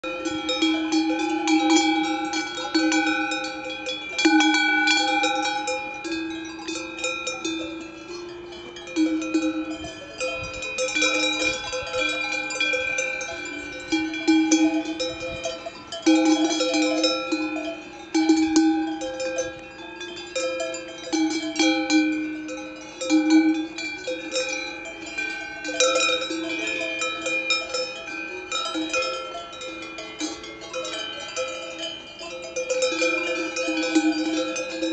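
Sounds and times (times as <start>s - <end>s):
cowbells clanking: 0.0s - 34.9s.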